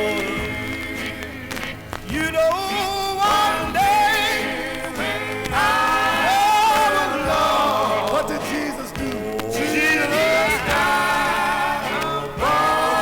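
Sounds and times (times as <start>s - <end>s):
male quartet singing in harmony: 0.0s - 13.0s.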